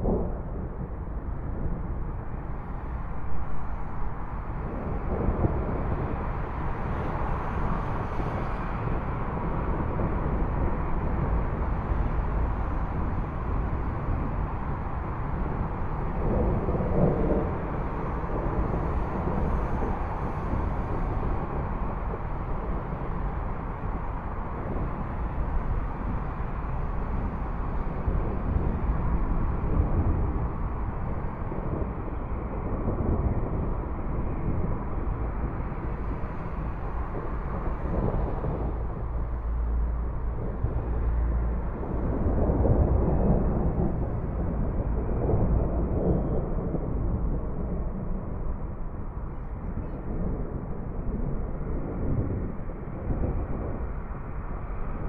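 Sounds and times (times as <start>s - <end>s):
thunder rumbling: 0.0s - 55.0s.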